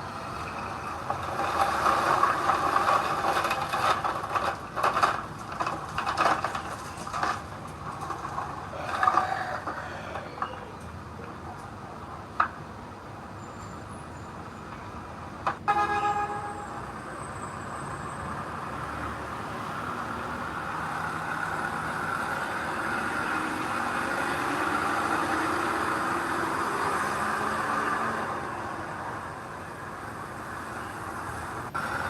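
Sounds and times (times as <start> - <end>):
heavy vehicle engine running: 0.0 - 11.8, 15.2 - 32.0.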